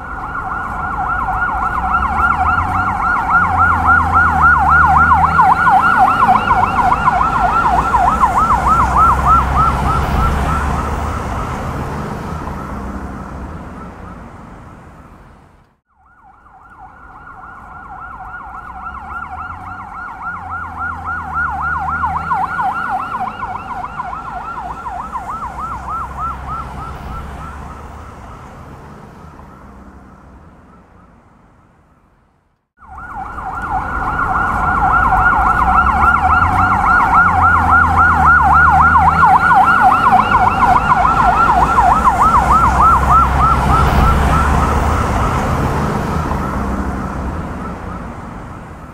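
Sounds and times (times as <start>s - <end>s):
police siren warbling: 0.0s - 14.9s, 16.0s - 30.9s, 32.8s - 48.9s
low traffic rumble: 0.0s - 48.9s.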